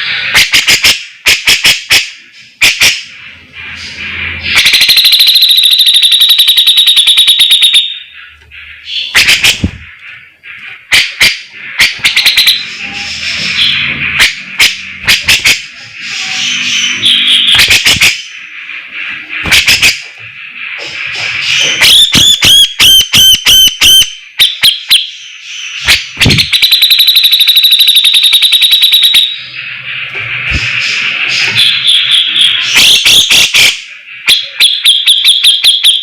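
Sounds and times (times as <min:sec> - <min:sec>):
bird singing: 0:01.9 - 0:35.5
bird whistles: 0:03.8 - 0:10.0, 0:10.9 - 0:29.6, 0:30.5 - 0:36.0.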